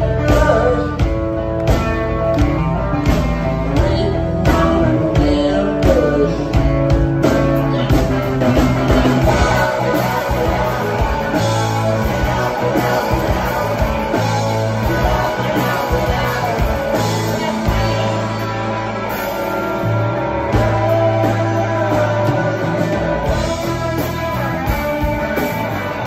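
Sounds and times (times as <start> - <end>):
bass: 0.0 - 26.0
drums: 0.0 - 26.0
electric guitars: 0.0 - 26.0.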